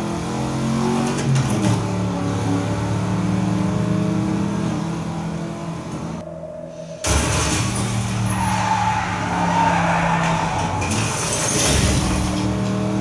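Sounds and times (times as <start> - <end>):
race car engines at high revs: 0.0 - 6.2, 7.0 - 13.0.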